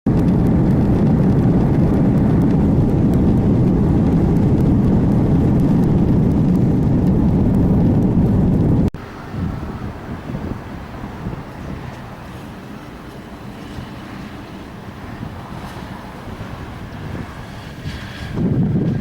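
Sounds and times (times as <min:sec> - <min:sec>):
jet engines roaring: 0:00.1 - 0:19.0.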